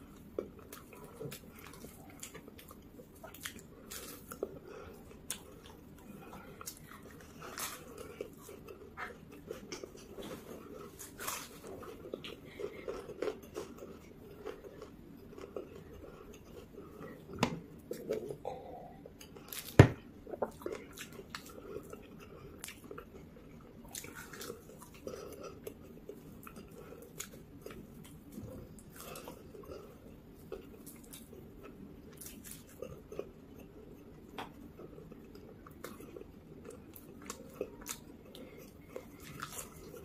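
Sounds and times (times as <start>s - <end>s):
chewing crunchy pastry: 0.0s - 40.0s.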